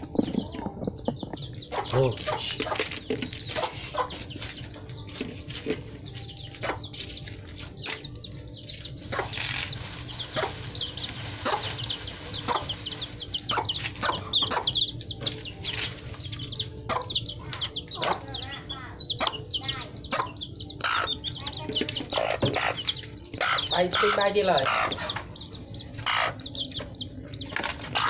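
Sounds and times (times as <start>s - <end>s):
young chickens peeping: 0.0s - 28.0s.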